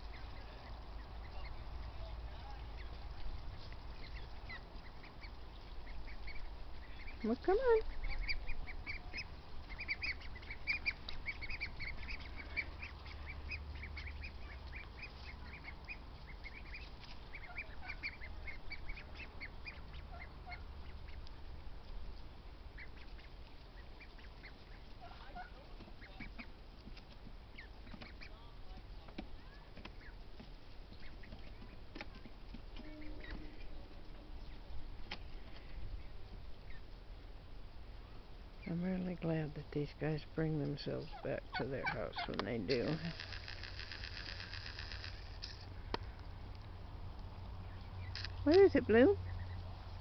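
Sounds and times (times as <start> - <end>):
ducklings peeping: 0.0 - 37.2, 38.0 - 50.0.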